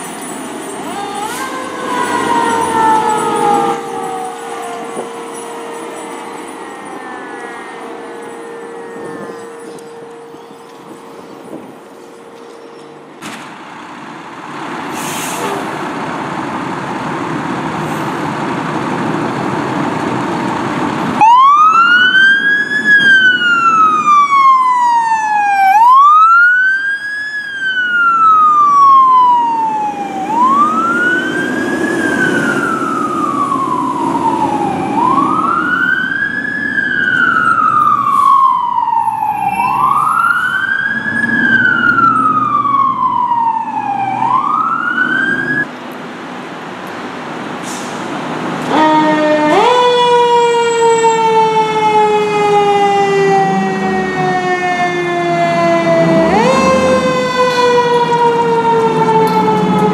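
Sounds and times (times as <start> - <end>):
siren wailing: 0.0 - 13.2, 21.1 - 45.7, 48.6 - 59.9
fire truck engine rumble: 0.0 - 59.9.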